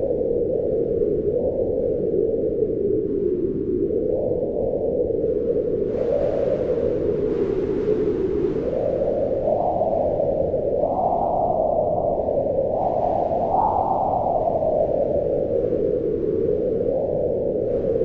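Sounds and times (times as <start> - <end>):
howling wind: 0.0 - 18.0.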